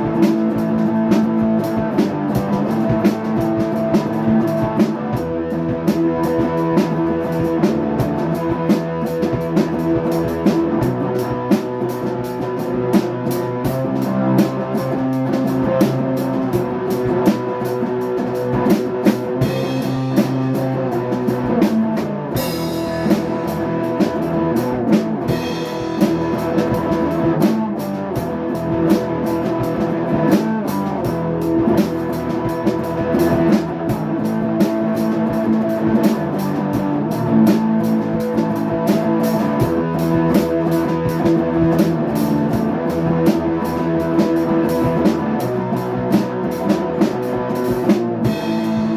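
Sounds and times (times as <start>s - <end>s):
rock music with drums and guitar: 0.0s - 48.9s.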